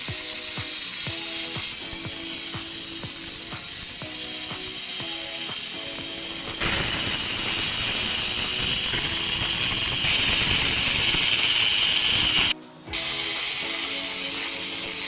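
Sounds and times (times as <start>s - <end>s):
power tool chattering: 0.0s - 15.0s.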